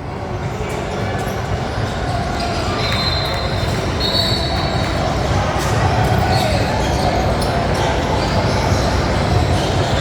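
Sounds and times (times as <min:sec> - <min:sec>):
crowd noise in a gym: 0:00.0 - 0:10.0.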